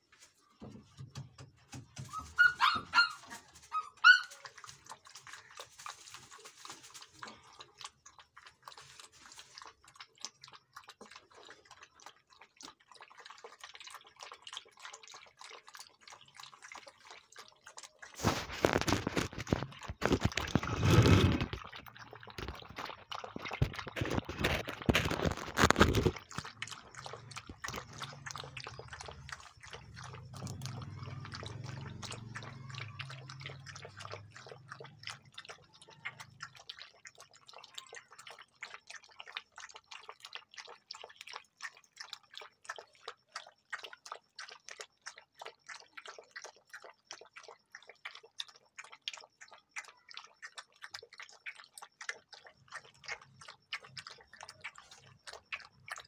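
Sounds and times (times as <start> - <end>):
puppies lapping milk from metal bowl: 0.0 - 56.0.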